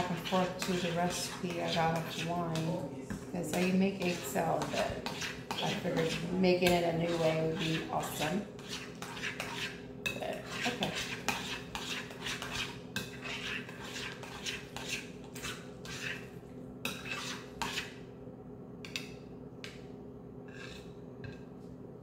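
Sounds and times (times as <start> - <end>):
spoon scraping against bowl: 0.0 - 2.8, 3.4 - 18.0, 20.4 - 21.5.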